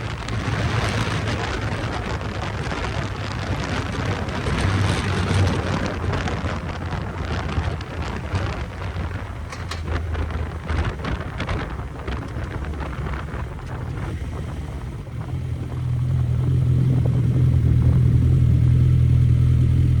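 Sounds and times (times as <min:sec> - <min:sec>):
motorcycle engine running: 0:00.0 - 0:20.0
rushing wind: 0:00.0 - 0:20.0.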